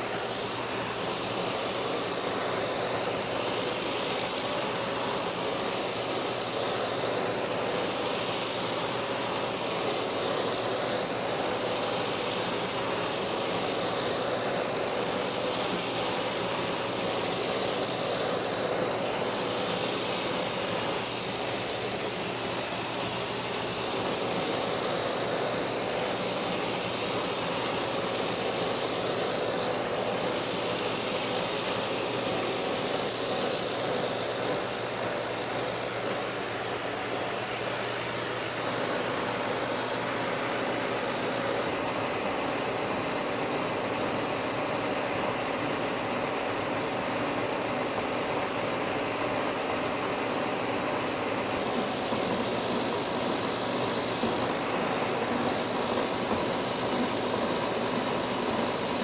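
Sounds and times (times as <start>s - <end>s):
cutter shearing plastic hiss: 0.0s - 59.0s
milling machine hum: 0.0s - 59.0s.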